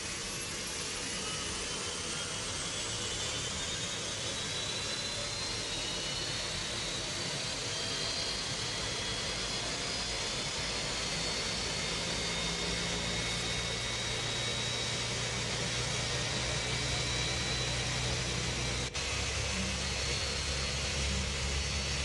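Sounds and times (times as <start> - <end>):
faint high whines: 0.0 - 22.0.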